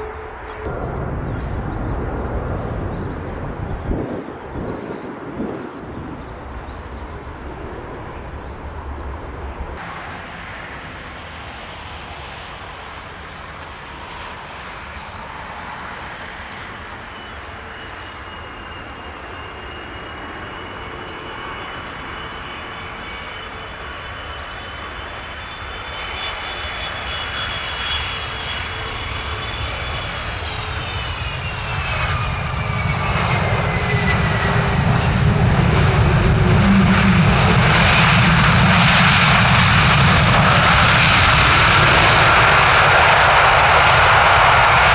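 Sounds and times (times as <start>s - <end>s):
deep aircraft rumble: 0.0s - 44.9s
jet engine whine: 0.0s - 44.9s.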